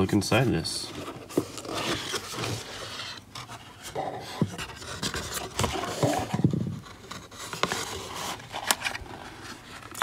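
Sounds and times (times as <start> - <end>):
cardboard rubbing and scraping: 0.9 - 10.0.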